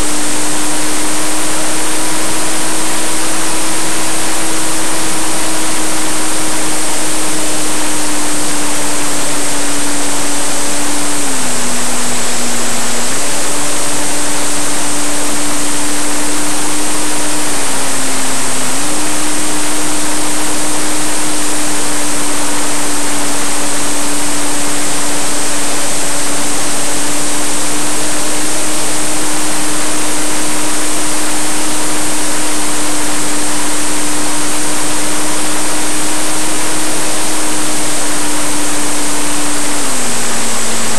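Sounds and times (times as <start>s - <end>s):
electric motor and propeller droning: 0.0s - 40.9s
thin high whine: 0.0s - 40.9s.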